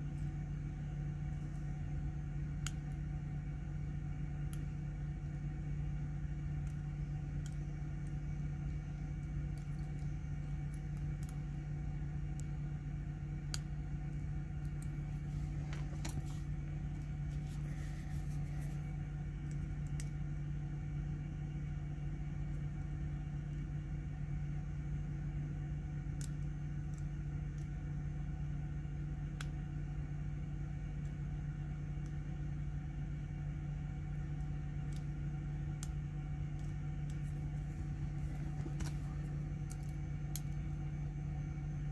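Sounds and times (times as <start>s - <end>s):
low mechanical hum: 0.0s - 41.9s.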